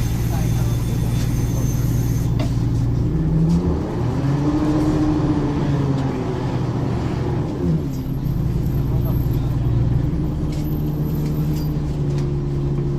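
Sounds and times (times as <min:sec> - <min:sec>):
bus diesel engine under load: 0:00.0 - 0:12.9.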